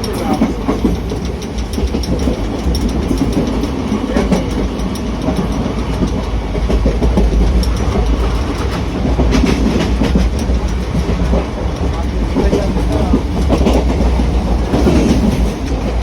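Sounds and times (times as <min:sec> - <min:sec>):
clickety-clack wheel clicks: 0:00.0 - 0:16.0
train rumbling on rails: 0:00.0 - 0:16.0.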